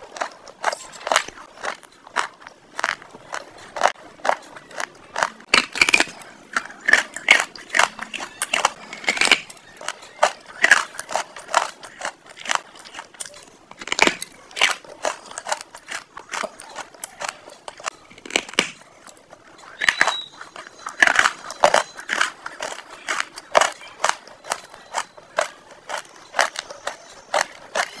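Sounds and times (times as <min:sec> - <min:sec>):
mouth chewing crunchy food: 0:00.0 - 0:28.0.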